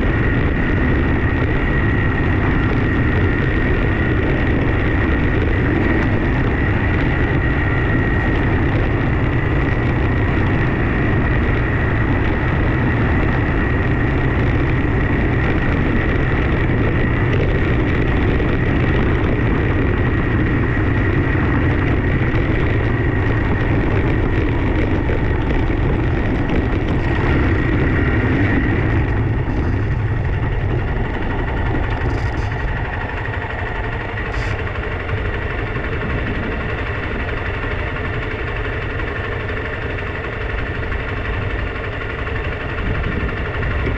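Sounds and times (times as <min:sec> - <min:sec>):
thin steady whine: 0:00.0 - 0:43.9
vehicle engine running: 0:00.0 - 0:43.9.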